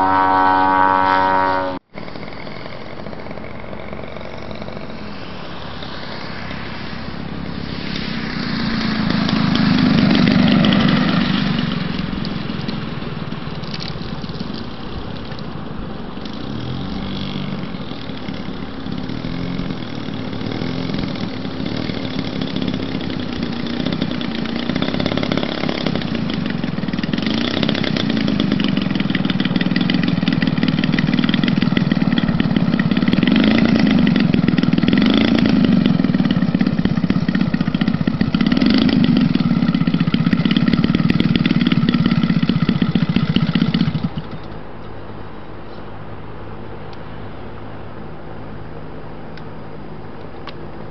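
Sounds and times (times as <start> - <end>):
model aeroplane engine buzzing: 0.0 - 50.9.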